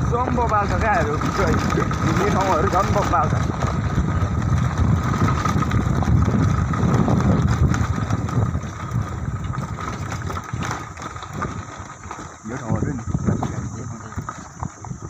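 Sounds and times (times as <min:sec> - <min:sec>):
motorcycle engine running: 0:00.0 - 0:15.0
tyres rumbling over dirt road: 0:00.0 - 0:15.0.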